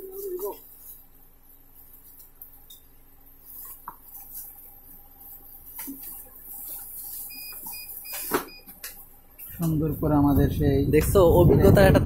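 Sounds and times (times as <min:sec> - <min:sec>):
plastic wrap rustling: 0:00.0 - 0:10.0.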